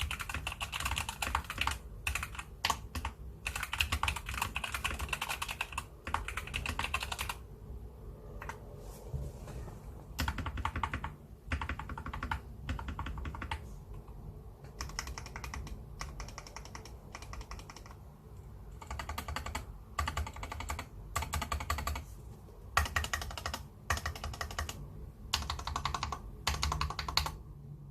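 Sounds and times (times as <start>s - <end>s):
typing on mechanical keyboard: 0.0s - 7.4s, 8.4s - 8.6s, 10.2s - 18.1s, 18.7s - 22.0s, 22.7s - 27.4s.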